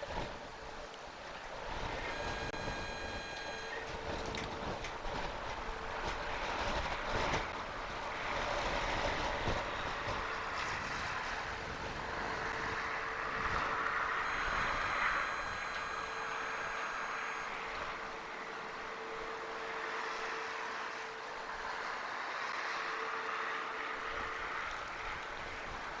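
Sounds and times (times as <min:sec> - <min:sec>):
faint steady hum: 0:00.0 - 0:26.0
strong wind on microphone: 0:00.0 - 0:26.0.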